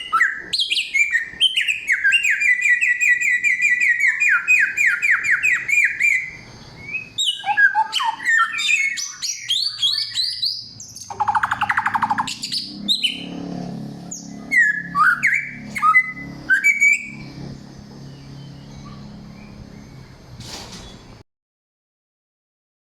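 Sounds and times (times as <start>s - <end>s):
songbird whistling song: 0.0s - 13.5s, 14.1s - 21.2s.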